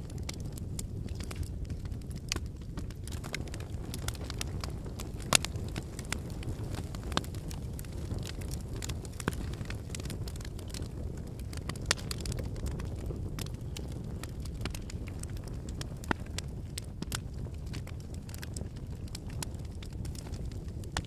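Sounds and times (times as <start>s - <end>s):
fire flames rushing: 0.0s - 21.0s
firewood crackling and popping: 0.0s - 21.0s.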